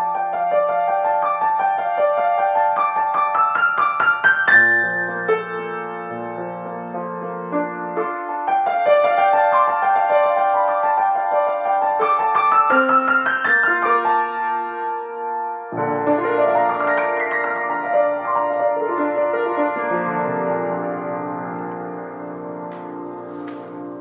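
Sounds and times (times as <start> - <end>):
solo piano improvising: 0.0 - 24.0.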